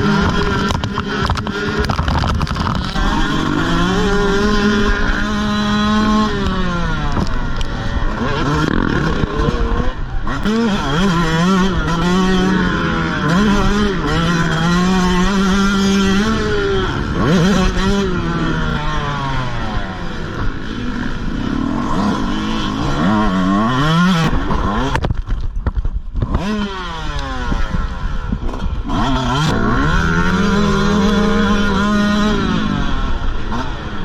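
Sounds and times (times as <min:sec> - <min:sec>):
dirt bike engine revving: 0:00.0 - 0:25.4, 0:26.0 - 0:34.0.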